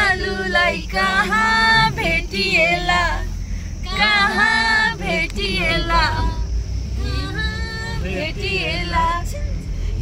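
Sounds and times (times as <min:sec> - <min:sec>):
people singing together: 0:00.0 - 0:09.3
vehicle low rumble: 0:00.0 - 0:10.0.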